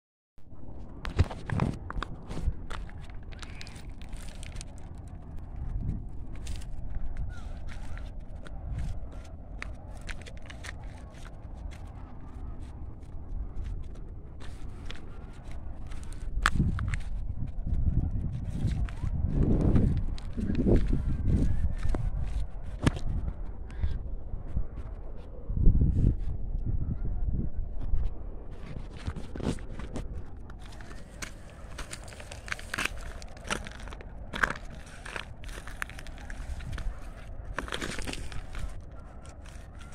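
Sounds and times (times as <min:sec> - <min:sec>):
wind rumbling on microphone: 0:00.4 - 0:39.9
footsteps crunching on rocky path: 0:01.1 - 0:23.2, 0:28.6 - 0:39.9.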